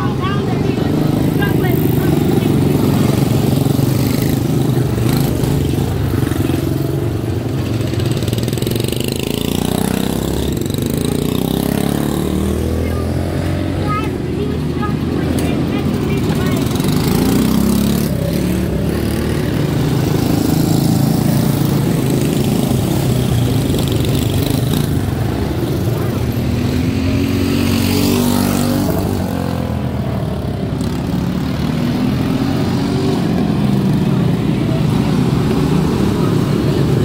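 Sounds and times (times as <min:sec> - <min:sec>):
small race car engines passing: 0:00.0 - 0:37.0.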